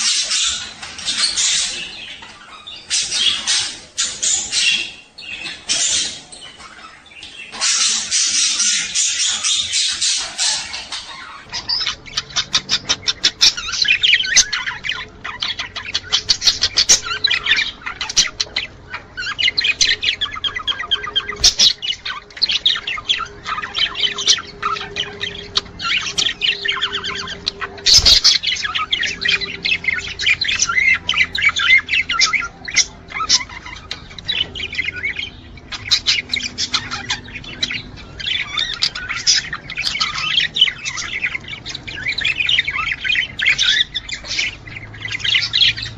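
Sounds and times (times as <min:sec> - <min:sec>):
budgerigars chattering and warbling: 0:00.0 - 0:45.9.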